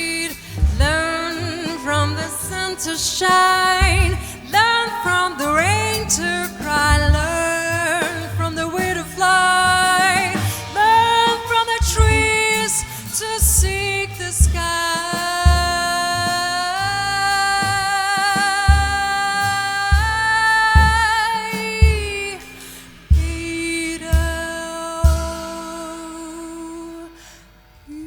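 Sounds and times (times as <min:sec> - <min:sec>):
jazz band with bass beat: 0:00.0 - 0:25.9
woman singing: 0:00.0 - 0:28.0.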